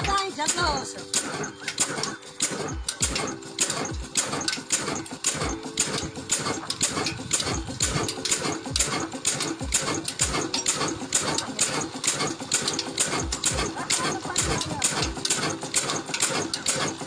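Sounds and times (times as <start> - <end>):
old diesel engine knocking: 0.0 - 17.0.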